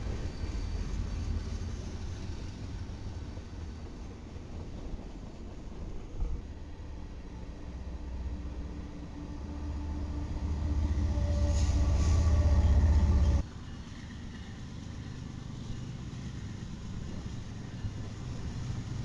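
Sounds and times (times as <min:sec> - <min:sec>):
approaching locomotive rumble: 0:00.0 - 0:19.0
diesel locomotives rumbling past: 0:00.0 - 0:19.0.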